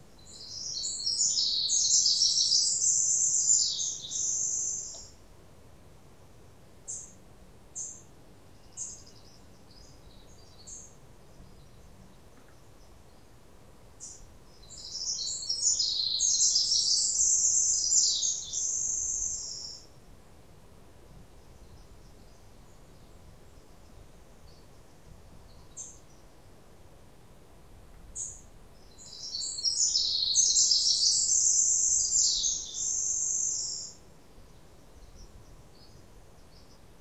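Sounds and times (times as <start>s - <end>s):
songbirds chirping: 0.0s - 20.0s, 21.2s - 26.5s, 28.0s - 37.0s.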